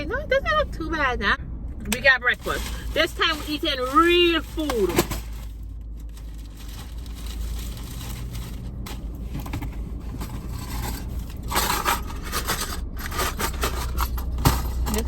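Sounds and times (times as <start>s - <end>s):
rustling and scraping of handling: 2.0s - 15.0s.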